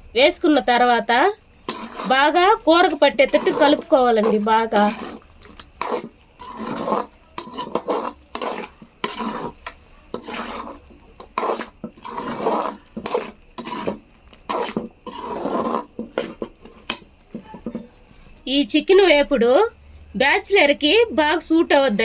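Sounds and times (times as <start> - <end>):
spoon scraping and clinking in pan: 0.8 - 19.0.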